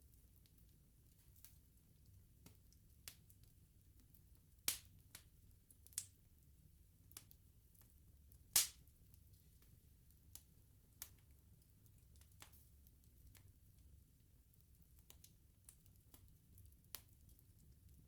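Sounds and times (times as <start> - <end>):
bonfire crackling and popping: 0.1 - 18.0.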